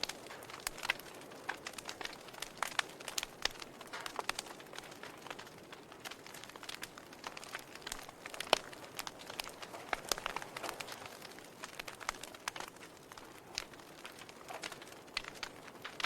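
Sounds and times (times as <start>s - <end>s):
faint fire hiss: 0.0s - 16.0s
logs crackling in fireplace: 0.0s - 16.0s.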